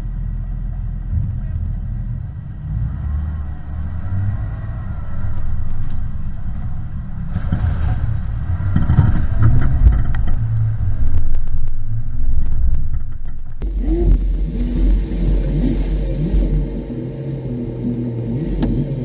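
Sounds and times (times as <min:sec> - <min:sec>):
off-road vehicle rumble: 0:00.0 - 0:19.0.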